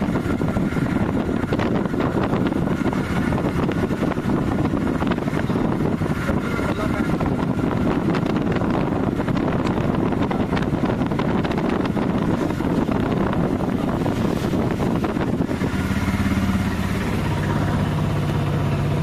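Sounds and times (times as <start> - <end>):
vehicle engine and road noise: 0.0 - 19.0
wind buffeting microphone: 0.0 - 19.0.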